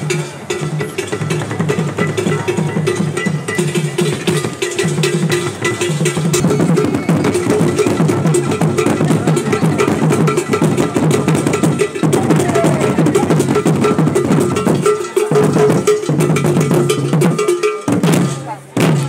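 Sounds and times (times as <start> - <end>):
drums: 0.0 - 19.0
metal bell struck in rhythm: 0.0 - 19.0.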